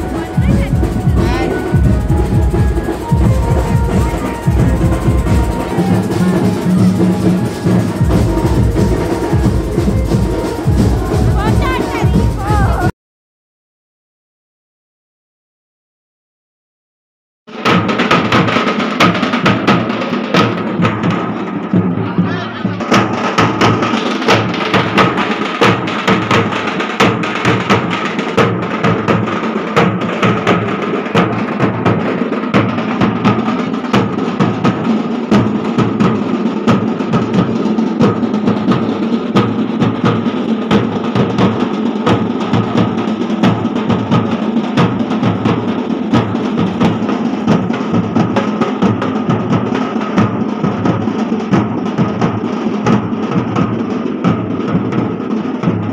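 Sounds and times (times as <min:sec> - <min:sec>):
fast loud drumming: 0:00.0 - 0:12.9, 0:17.5 - 0:55.9.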